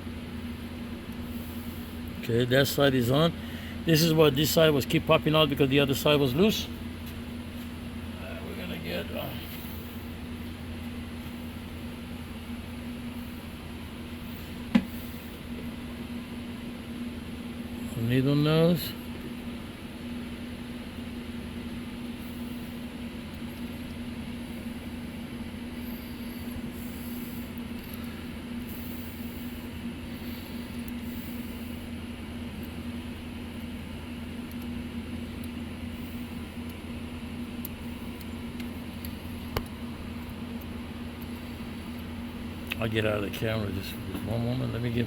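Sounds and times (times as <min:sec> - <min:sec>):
mechanical hum: 0:00.0 - 0:45.0.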